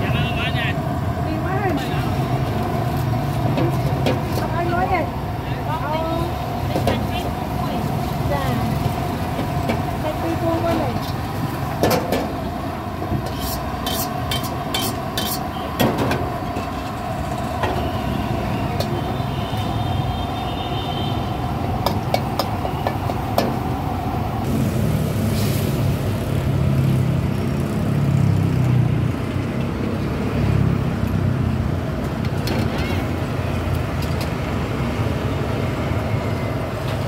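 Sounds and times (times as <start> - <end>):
motor traffic: 0.0 - 37.0.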